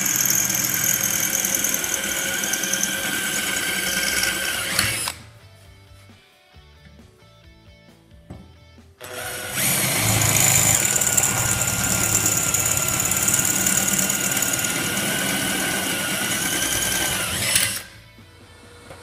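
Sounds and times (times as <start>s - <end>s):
power tool whining on metal: 0.0s - 5.3s, 9.0s - 19.0s.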